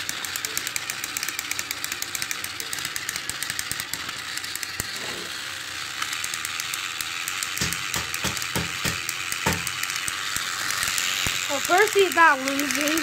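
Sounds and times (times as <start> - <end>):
toy train engines whirring: 0.0 - 13.0.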